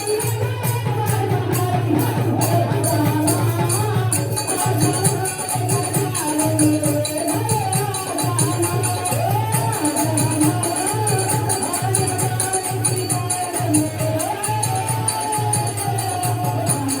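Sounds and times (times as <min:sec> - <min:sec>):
jingling percussion: 0:00.0 - 0:17.0
steady drum beat: 0:00.0 - 0:17.0.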